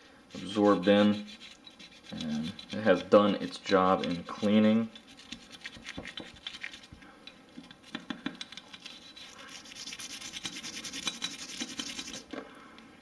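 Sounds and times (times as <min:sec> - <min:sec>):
brush scrubbing metal: 0:00.3 - 0:07.0, 0:07.8 - 0:12.2.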